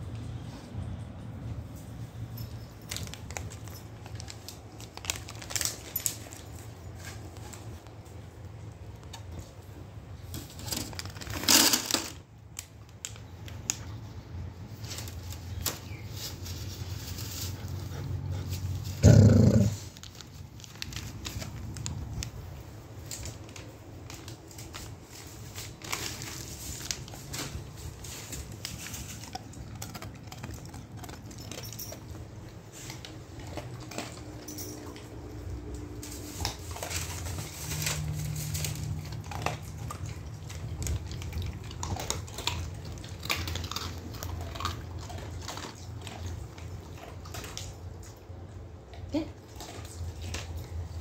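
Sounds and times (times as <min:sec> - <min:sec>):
dog crunching kibble: 0:00.0 - 0:51.0.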